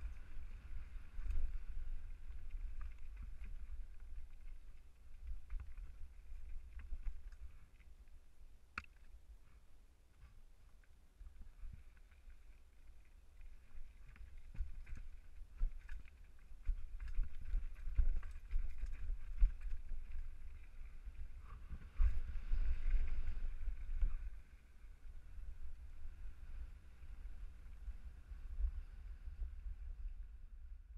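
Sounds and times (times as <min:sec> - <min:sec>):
wind rumbling on microphone: 0:00.0 - 0:30.9.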